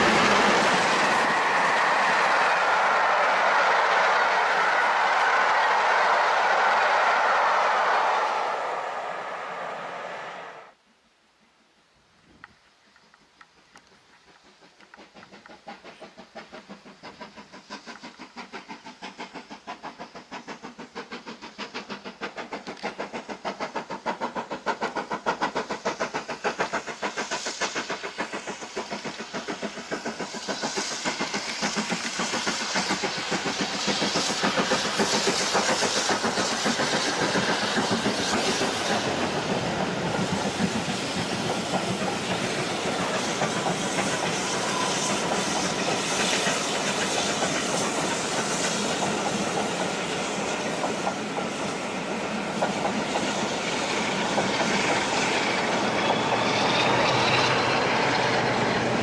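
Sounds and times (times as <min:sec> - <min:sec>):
steam locomotive exhaust beat: 0:00.0 - 0:10.5, 0:13.5 - 0:59.0.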